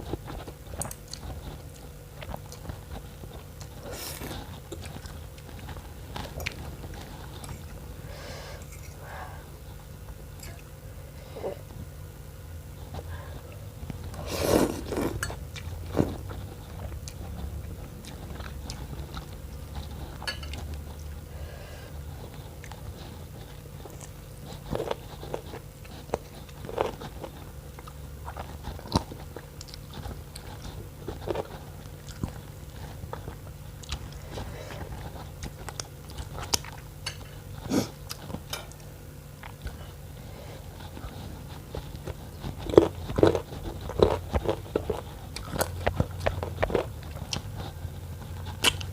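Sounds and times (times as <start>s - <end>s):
person chewing and crunching: 0.0s - 10.8s, 12.8s - 21.3s, 21.9s - 48.9s
steady low hum: 0.0s - 48.9s.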